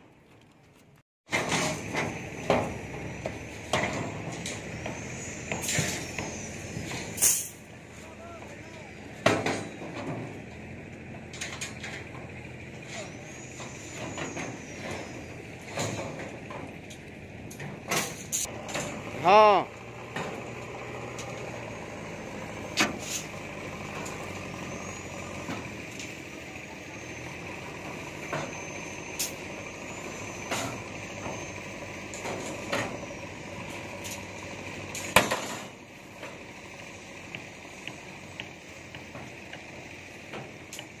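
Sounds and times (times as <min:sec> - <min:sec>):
steel rods clanking: 0:01.3 - 0:19.2, 0:20.0 - 0:36.7
steady engine drone: 0:01.3 - 0:41.0.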